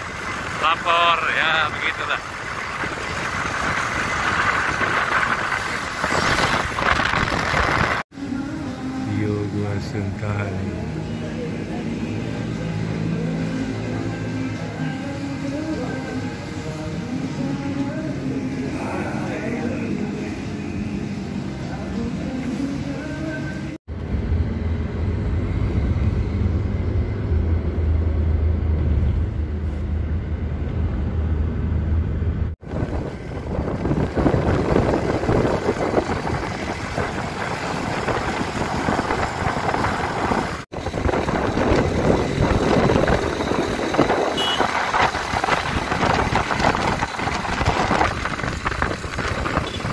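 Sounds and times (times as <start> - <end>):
vehicle engine hum: 0.0 - 49.9
wind and road noise: 0.0 - 49.9.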